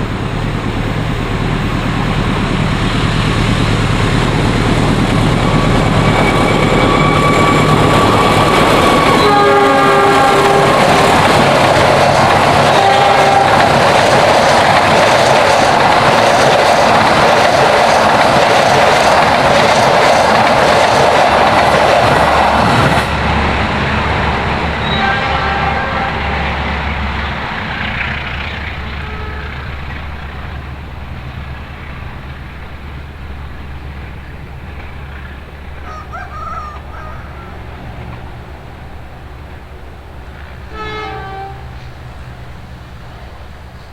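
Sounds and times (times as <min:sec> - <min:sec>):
train passing at speed: 0:00.0 - 0:43.9.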